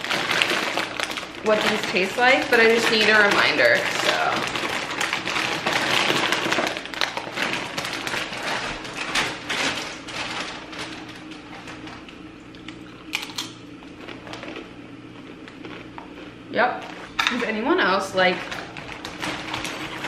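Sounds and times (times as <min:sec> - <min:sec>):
faint steady hum: 0:00.0 - 0:20.0
plastic chip bag crinkling: 0:00.0 - 0:20.0.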